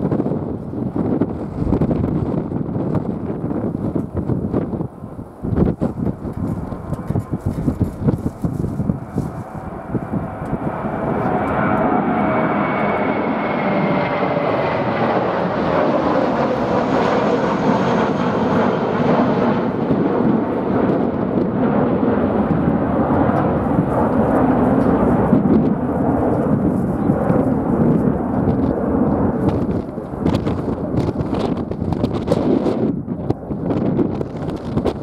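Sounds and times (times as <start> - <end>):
jet airliner flying past: 0.0 - 35.0
wind buffeting microphone: 0.0 - 35.0.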